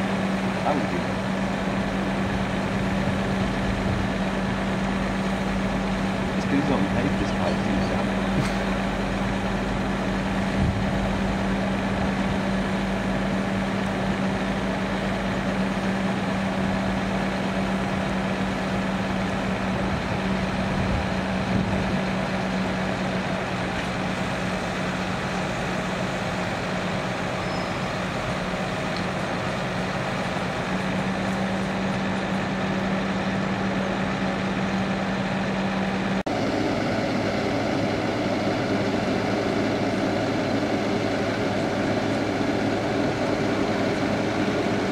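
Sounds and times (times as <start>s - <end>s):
constant low hum: 0.0s - 44.9s
diesel lorry engine running: 0.0s - 44.9s.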